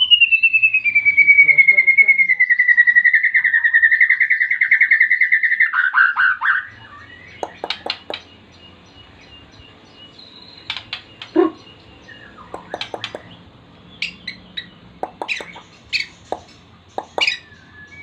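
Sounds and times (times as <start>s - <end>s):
bird chip calls: 0.0s - 18.0s
songbird trilling: 0.0s - 18.0s.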